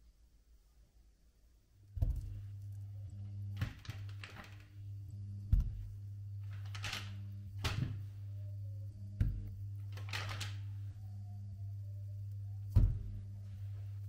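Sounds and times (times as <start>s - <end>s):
induction hob humming: 1.7s - 14.0s.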